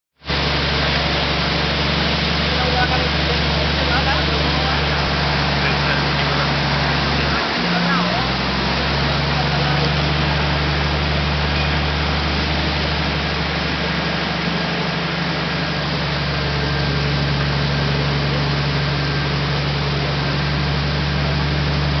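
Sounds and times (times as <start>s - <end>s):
engine running steadily: 0.2s - 22.0s.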